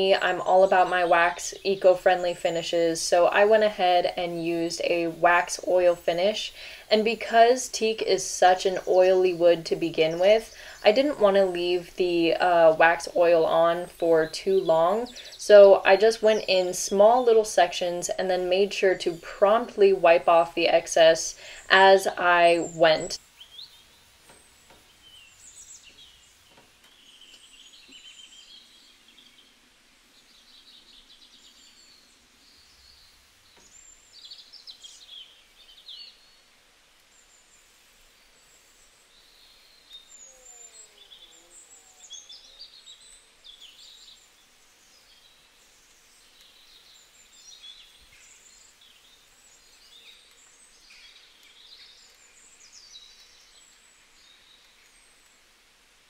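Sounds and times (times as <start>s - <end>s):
birds chirping and trilling: 0.0s - 56.0s
low background hiss: 0.0s - 56.0s.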